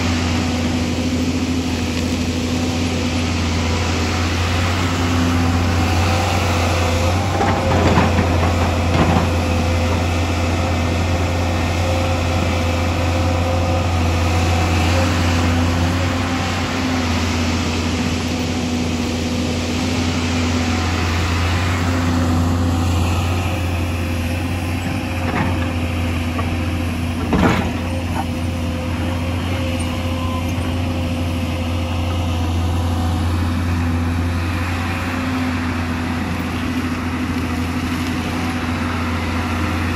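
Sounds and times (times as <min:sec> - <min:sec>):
excavator diesel engine running: 0:00.0 - 0:39.9
excavator digging and dumping soil: 0:00.0 - 0:39.9.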